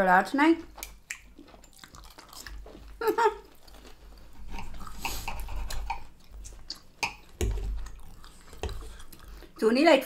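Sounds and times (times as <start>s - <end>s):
chewing and crunching food: 0.6s - 9.6s.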